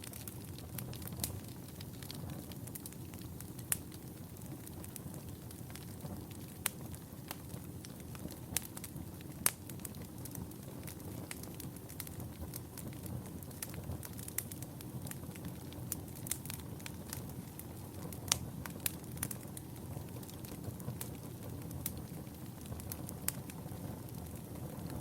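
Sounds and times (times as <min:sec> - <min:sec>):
fire crackles and pops: 0:00.0 - 0:25.0
low rumble of flames: 0:00.0 - 0:25.0.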